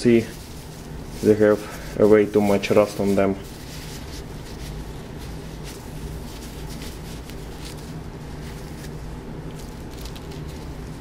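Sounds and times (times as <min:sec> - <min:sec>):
wet wipe rubbing metal: 0:00.0 - 0:11.0.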